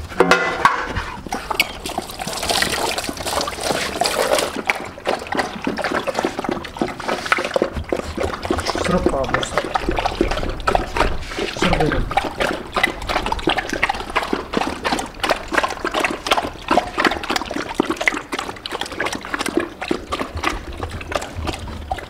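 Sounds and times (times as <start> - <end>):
dogs lapping water from metal pan: 0.0 - 22.0.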